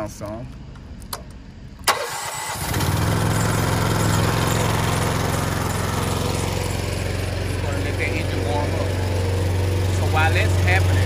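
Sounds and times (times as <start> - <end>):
pressure washer engine running: 2.1 - 11.0.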